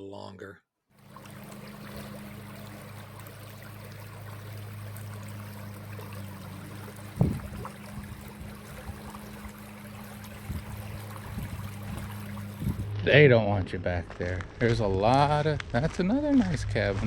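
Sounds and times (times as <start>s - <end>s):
road noise: 1.0s - 14.8s
vehicle engine hum: 1.0s - 14.8s.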